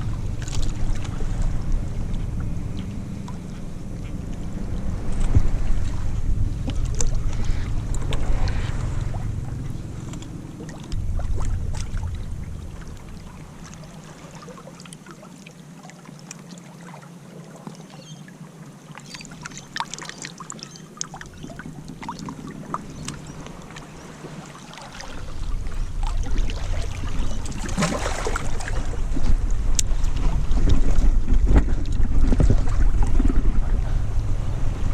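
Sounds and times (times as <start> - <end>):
wind buffeting microphone: 0.0 - 14.4, 21.3 - 34.9
waves: 0.0 - 34.9.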